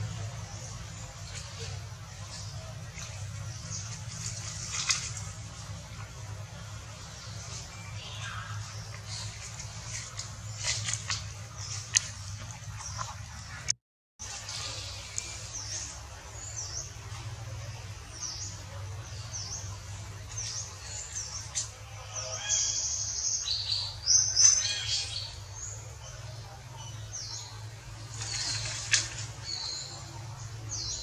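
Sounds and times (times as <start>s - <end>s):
birds chirping: 0.0s - 31.0s
steady low hum: 0.0s - 31.0s.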